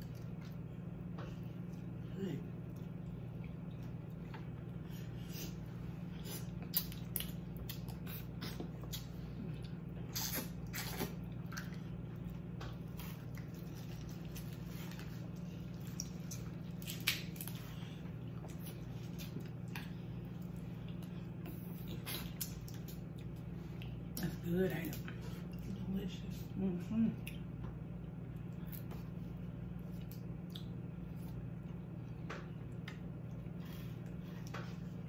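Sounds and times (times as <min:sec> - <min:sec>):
wet chewing and lip smacking: 0:00.0 - 0:25.7, 0:27.2 - 0:35.0.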